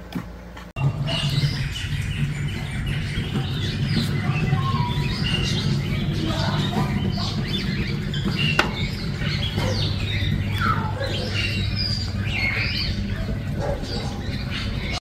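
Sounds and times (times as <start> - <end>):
steady low hum: 0.0 - 15.0
birds chirping and calling: 0.8 - 15.0.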